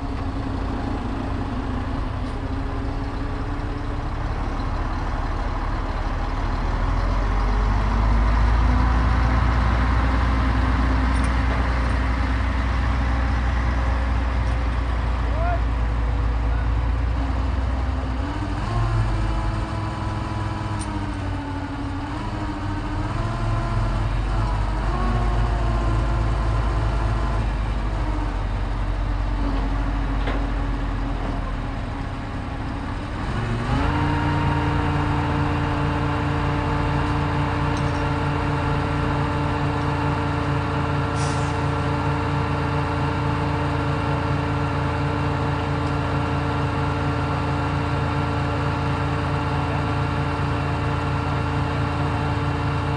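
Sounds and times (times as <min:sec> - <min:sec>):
crane engine running: 0:00.0 - 0:52.9.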